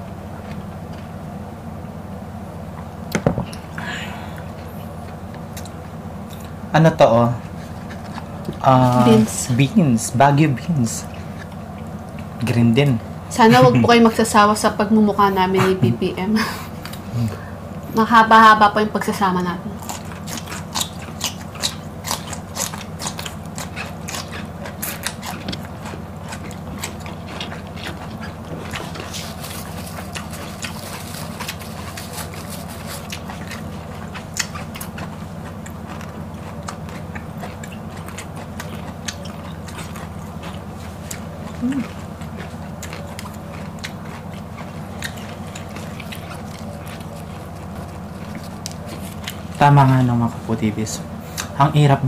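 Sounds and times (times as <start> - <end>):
chewing crisp raw vegetables: 4.4 - 14.6, 19.6 - 52.0.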